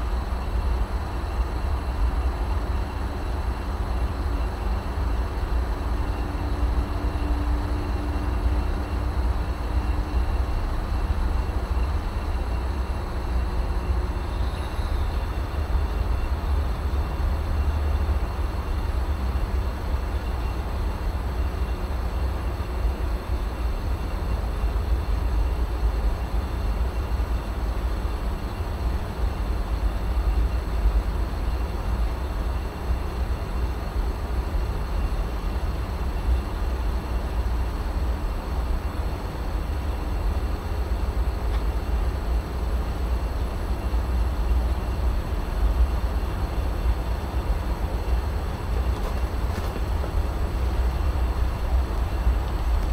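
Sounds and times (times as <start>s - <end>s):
faint steady tones: 0.0s - 52.9s
heat pump low hum: 0.0s - 52.9s.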